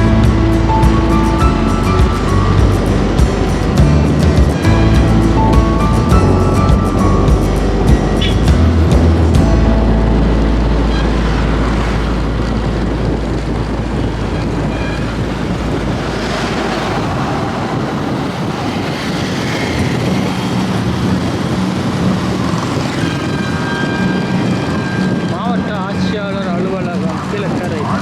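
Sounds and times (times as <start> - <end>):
motorbike road noise: 0.0 - 28.0
wind rushing over microphone: 0.0 - 28.0.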